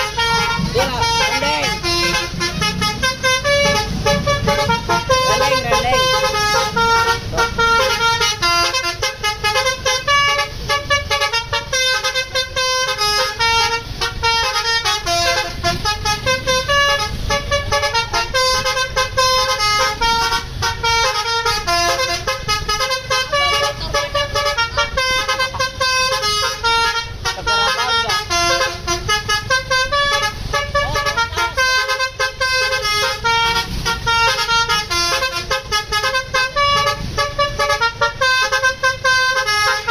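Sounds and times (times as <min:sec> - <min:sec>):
low engine rumble: 0:00.0 - 0:39.9
multi-tone bus horn melody: 0:00.0 - 0:39.9.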